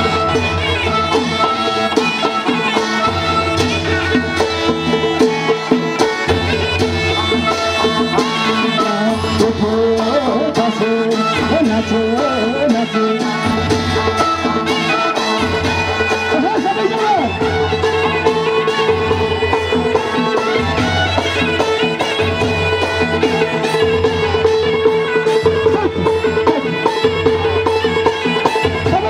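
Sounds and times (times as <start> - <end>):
steady drum beat: 0.0 - 29.0.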